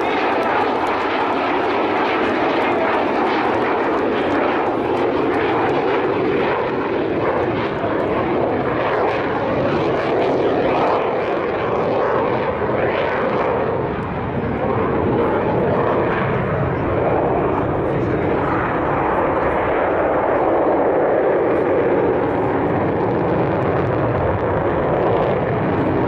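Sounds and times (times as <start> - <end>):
aircraft engine roar: 0.0 - 26.0.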